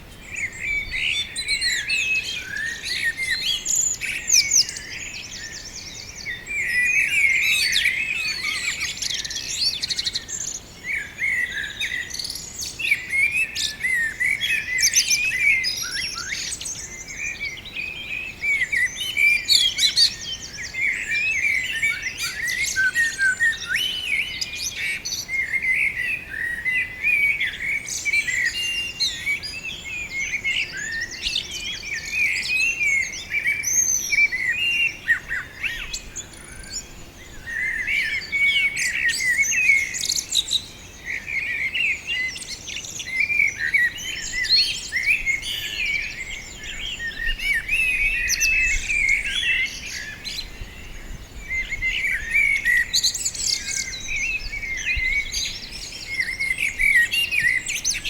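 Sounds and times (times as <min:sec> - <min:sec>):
birds chirping and singing: 0:00.0 - 0:58.0.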